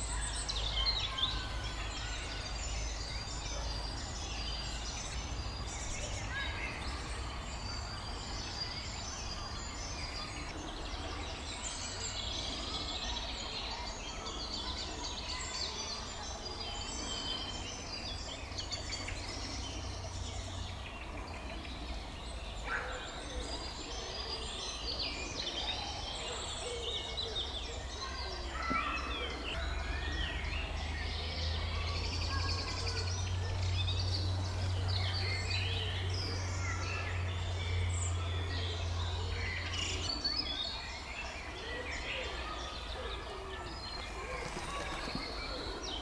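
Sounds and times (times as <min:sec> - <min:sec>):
songbirds singing and chirping: 0:00.0 - 0:46.0.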